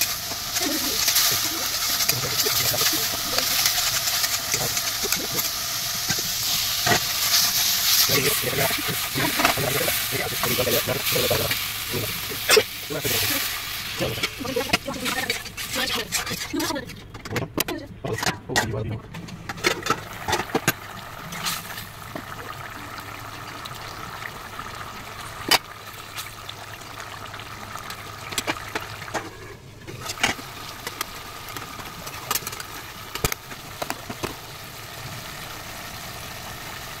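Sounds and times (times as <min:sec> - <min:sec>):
curry bubbling in a pot: 0:00.0 - 0:16.7, 0:19.9 - 0:37.0.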